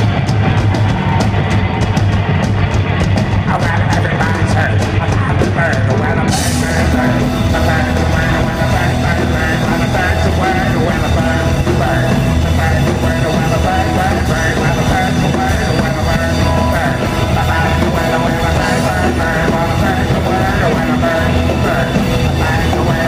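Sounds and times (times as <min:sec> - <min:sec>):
drums: 0:00.0 - 0:23.0
electric guitars: 0:00.0 - 0:23.0
live rock band playing: 0:00.0 - 0:23.0
lead vocal singing: 0:03.4 - 0:23.0.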